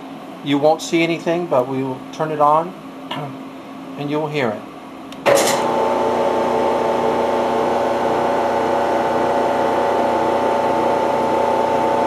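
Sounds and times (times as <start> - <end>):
vacuum pump humming and whining: 0.0 - 12.0.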